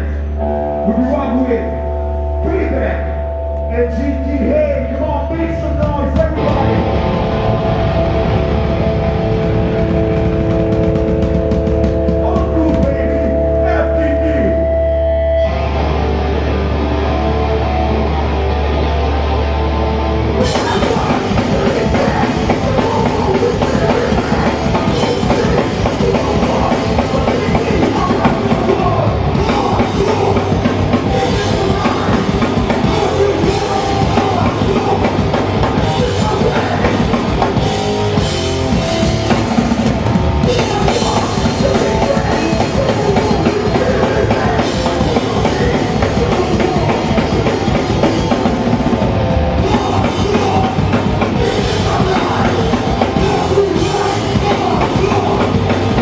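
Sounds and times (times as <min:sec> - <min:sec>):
bass guitar: 0:00.0 - 0:56.0
distorted electric guitars: 0:00.0 - 0:56.0
fast driving drums: 0:04.4 - 0:14.5, 0:20.4 - 0:56.0.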